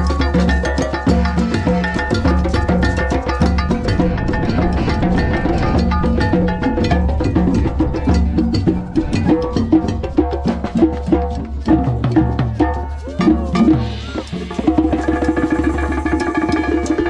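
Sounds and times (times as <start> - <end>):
hand drums playing: 0.0 - 17.0.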